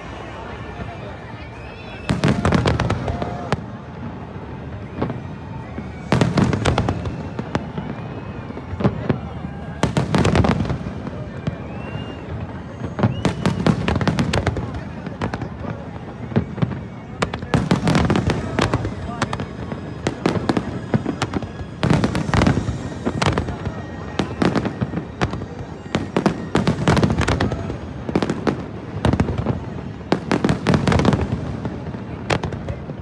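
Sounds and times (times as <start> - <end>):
firework bursts and crackles: 0.0 - 33.0.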